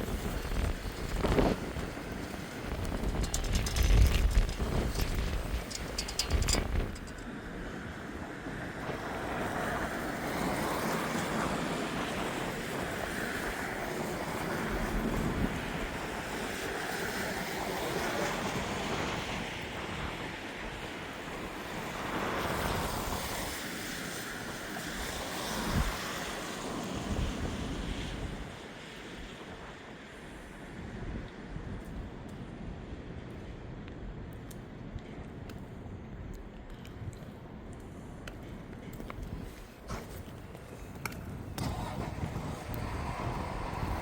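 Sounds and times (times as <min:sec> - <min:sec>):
strong gusty wind: 0:00.0 - 0:44.0
wind buffeting microphone: 0:00.0 - 0:44.0.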